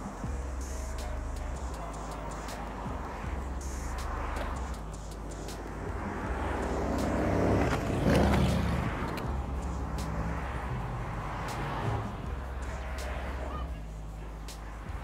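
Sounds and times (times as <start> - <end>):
car passing by: 0.9 - 15.0.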